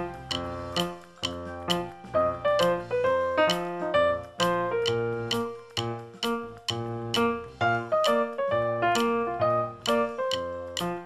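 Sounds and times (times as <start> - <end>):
keyboard playing simple tune: 0.0 - 11.0.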